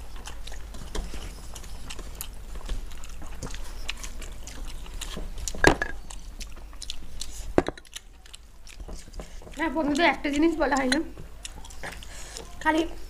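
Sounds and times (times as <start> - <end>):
chewing: 0.0 - 13.0
fingers mixing rice on steel plates: 0.0 - 13.0.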